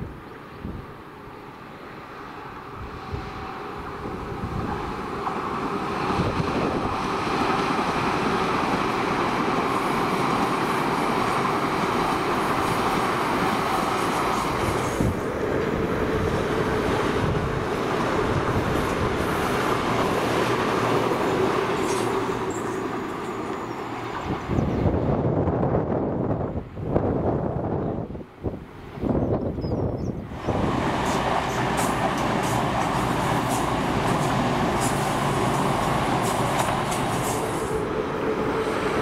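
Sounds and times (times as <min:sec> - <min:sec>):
train passing: 0:00.0 - 0:29.2, 0:30.1 - 0:39.0.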